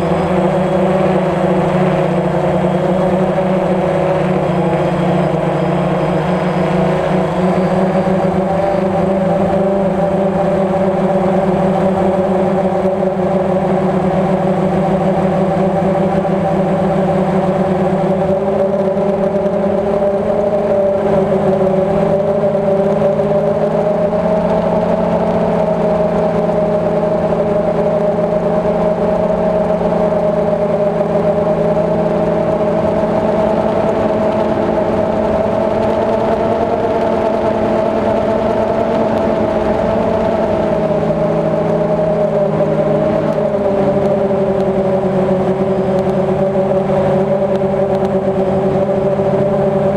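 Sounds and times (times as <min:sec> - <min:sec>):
drone propellers buzzing: 0:00.0 - 0:49.9.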